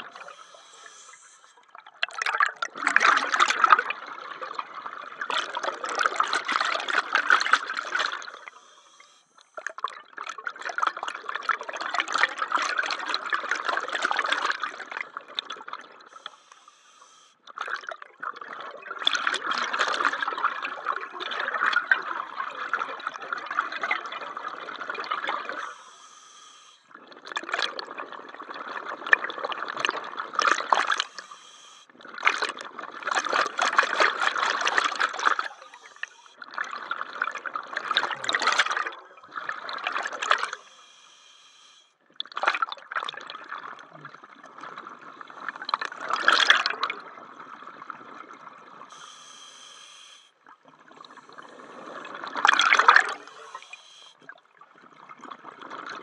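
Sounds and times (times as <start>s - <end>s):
scuba regulator bubbles underwater: 0.0s - 56.0s.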